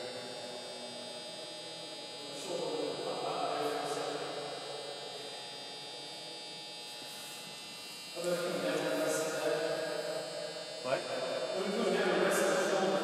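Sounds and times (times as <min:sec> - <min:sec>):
faint higher buzz: 0:00.0 - 0:13.0
steady hum: 0:00.0 - 0:13.0.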